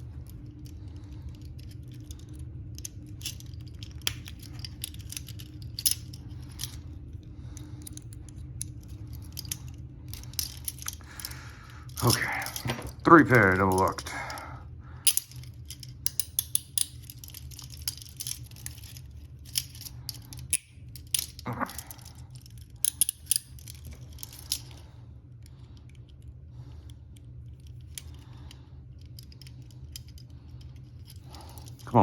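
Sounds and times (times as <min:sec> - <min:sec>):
low hum: 0:00.0 - 0:32.0
handcuffs ratcheting clicks: 0:00.2 - 0:06.9, 0:07.5 - 0:24.8, 0:27.1 - 0:32.0.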